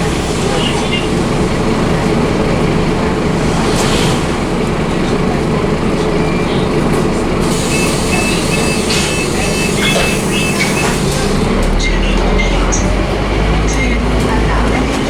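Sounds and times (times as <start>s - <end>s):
bus diesel engine drone: 0.0s - 15.0s
road noise: 0.0s - 15.0s.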